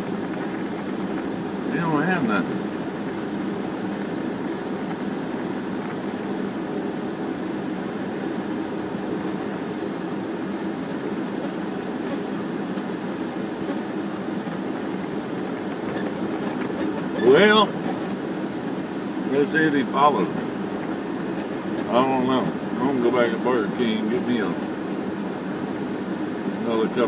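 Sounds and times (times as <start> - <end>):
car engine hum inside cabin: 0.0 - 27.0.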